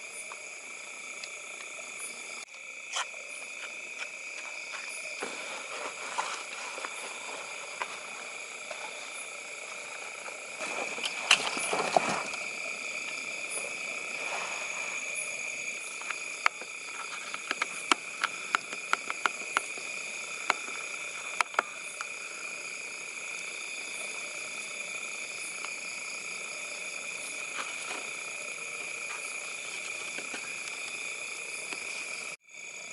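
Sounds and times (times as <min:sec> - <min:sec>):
frogs and insects chorus: 0:00.0 - 0:32.9.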